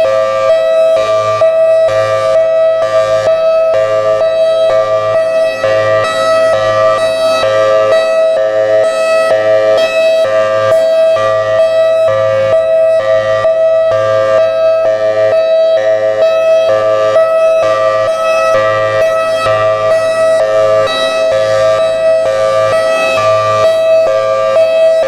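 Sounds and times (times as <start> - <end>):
two-tone siren warble: 0.0 - 25.0.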